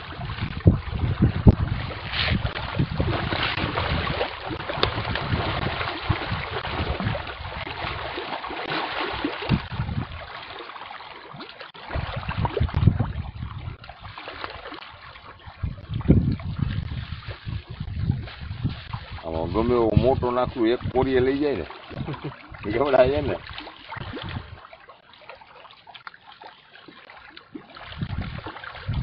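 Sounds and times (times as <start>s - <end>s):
fish splashing at water surface: 0.0s - 29.0s.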